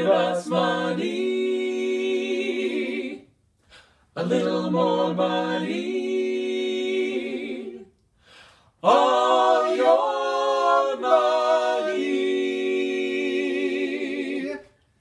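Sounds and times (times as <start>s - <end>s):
vocal trio singing in harmony: 0.0s - 15.0s.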